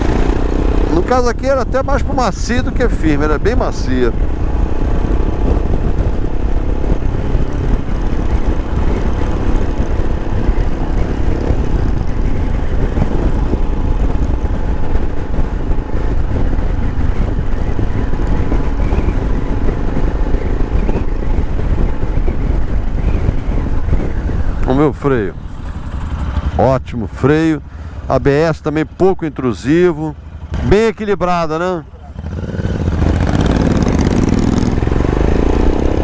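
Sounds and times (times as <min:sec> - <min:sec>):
motorcycle engine running: 0:00.0 - 0:36.0
wind noise: 0:00.0 - 0:36.0.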